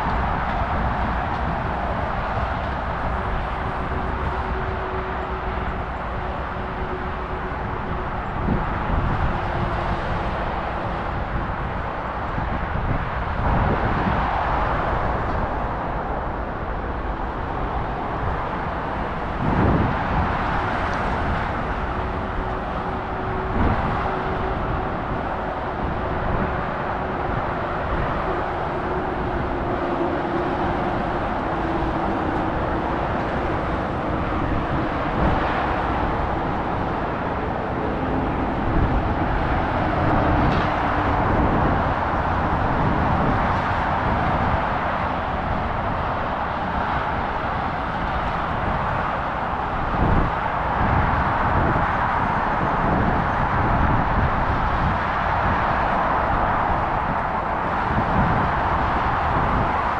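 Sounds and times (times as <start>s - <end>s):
motorway traffic rushing: 0.0s - 59.9s.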